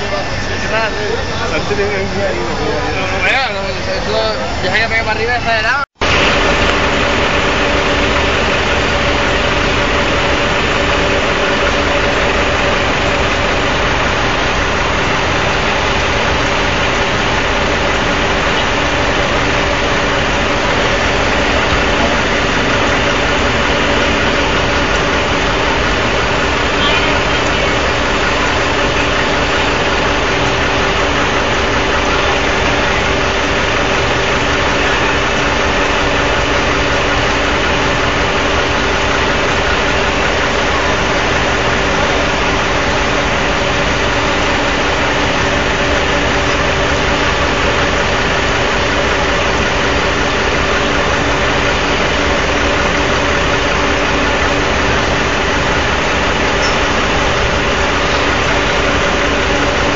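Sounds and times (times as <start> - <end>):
engine drone: 0.0 - 59.9.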